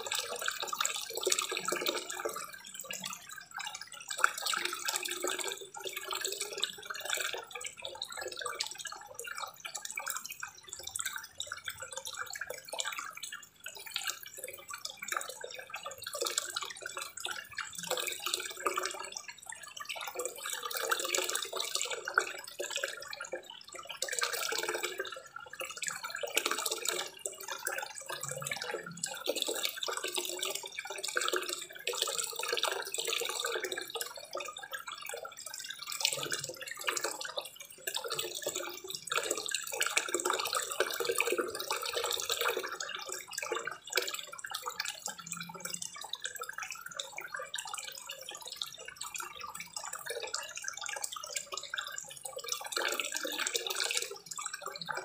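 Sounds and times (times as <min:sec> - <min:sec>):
waterfall pouring into pond: 0:00.0 - 0:09.2, 0:10.0 - 0:25.2, 0:25.8 - 0:55.0.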